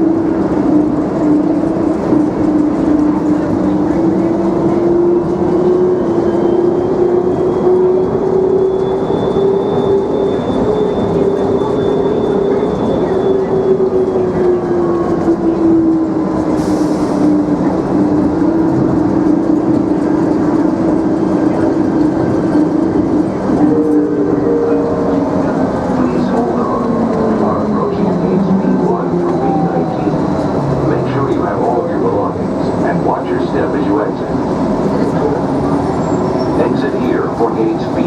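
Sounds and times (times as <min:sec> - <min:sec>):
train rumble: 0:00.0 - 0:38.0.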